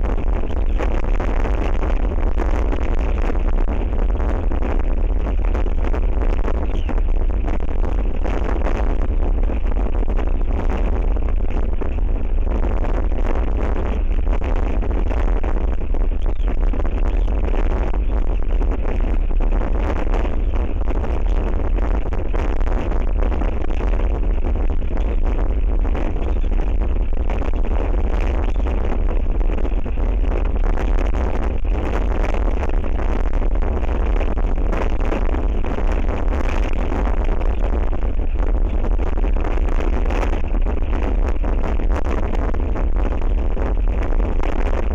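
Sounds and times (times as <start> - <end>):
strong wind buffeting microphone: 0.0 - 44.9.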